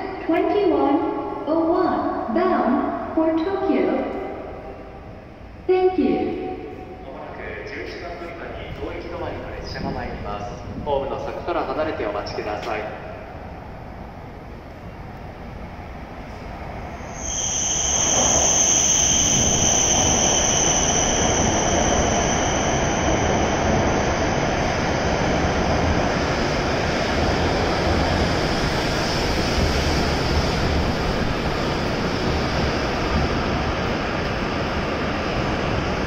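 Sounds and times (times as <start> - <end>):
high steady train whine: 0.0 - 36.0
train rushing and rolling: 0.0 - 36.0.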